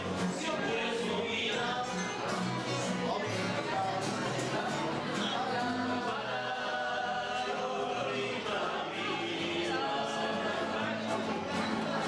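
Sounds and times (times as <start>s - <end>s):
group of people singing: 0.0s - 12.0s.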